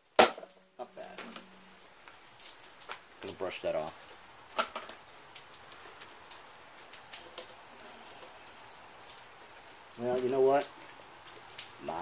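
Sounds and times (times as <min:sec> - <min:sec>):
light hiss: 0:00.0 - 0:12.0.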